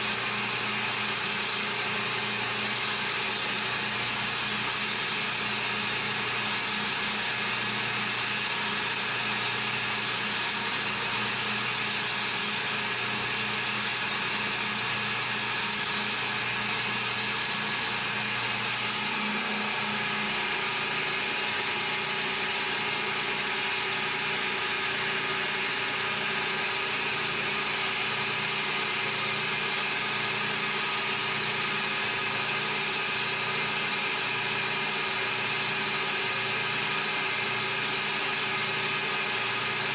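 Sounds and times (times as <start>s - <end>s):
milling machine humming: 0.0s - 39.9s.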